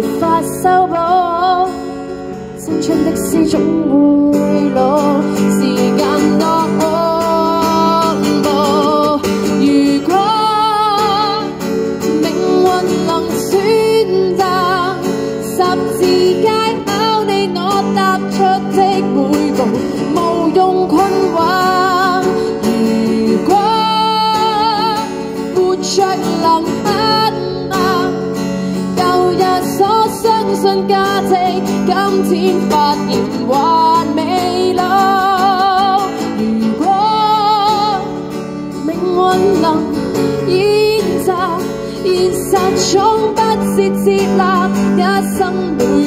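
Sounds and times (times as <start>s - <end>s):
strummed acoustic guitar: 0.0s - 46.0s
woman singing pop song: 0.0s - 46.0s.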